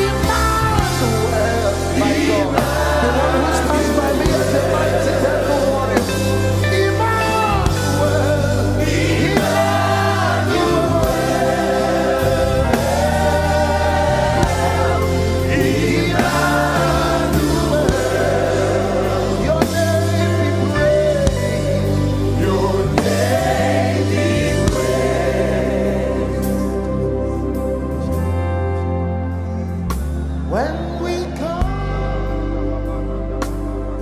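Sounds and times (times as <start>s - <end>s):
voices singing: 0.0s - 28.3s
choir singing: 0.0s - 28.6s, 30.5s - 34.0s
band with sustained bass: 0.0s - 34.0s.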